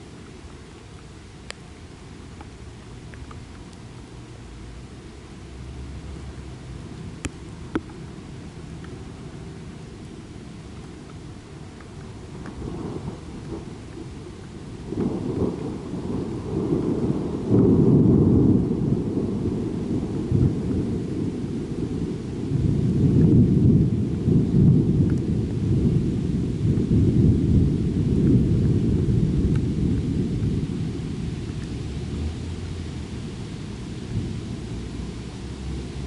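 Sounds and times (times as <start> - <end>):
steady rain: 0.0 - 36.0
thunder rumbling: 6.2 - 36.0.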